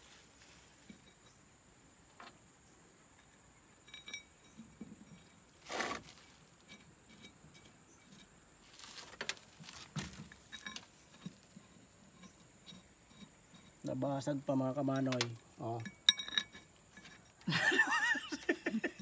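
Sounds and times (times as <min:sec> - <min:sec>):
faint metal clinks and scrapes: 0:00.0 - 0:19.0.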